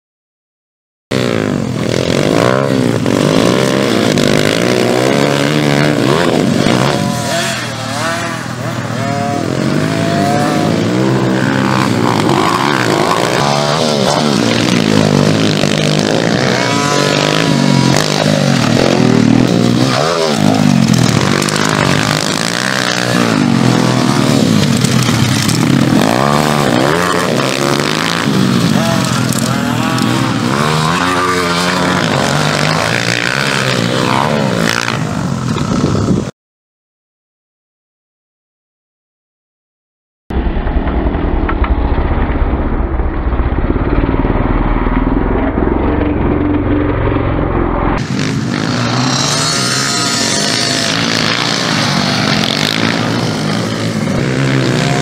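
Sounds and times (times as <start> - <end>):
small dirt bike engines revving: 1.1 - 36.3, 44.9 - 55.0.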